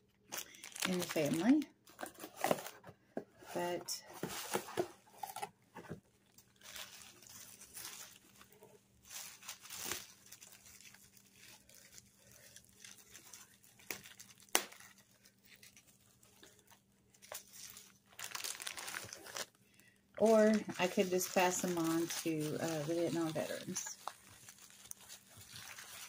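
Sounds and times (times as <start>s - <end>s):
bubble wrap crinkling: 0.2s - 2.8s, 3.5s - 26.0s.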